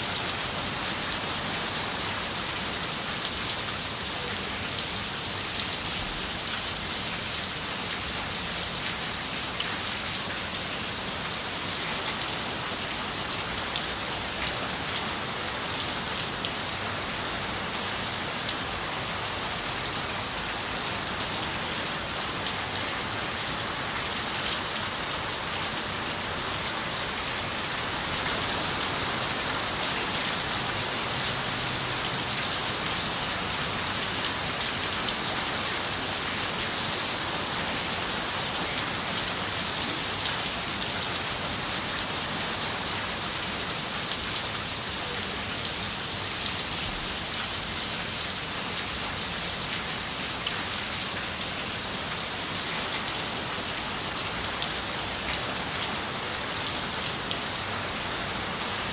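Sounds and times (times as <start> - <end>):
rain on a window: 0.4 - 58.9.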